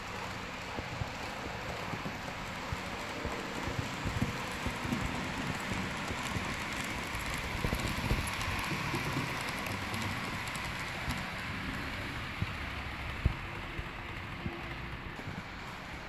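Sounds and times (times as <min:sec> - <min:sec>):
model train rattling on track: 0:00.0 - 0:16.0.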